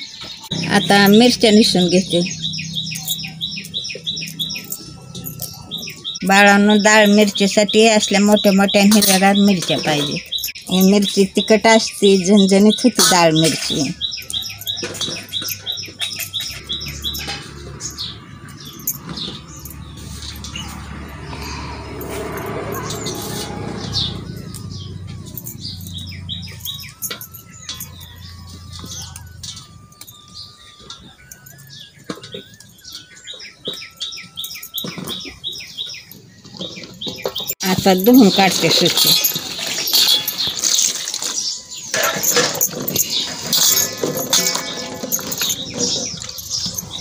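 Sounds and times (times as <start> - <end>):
small bird chirping: 0.0 - 22.1, 22.7 - 47.0.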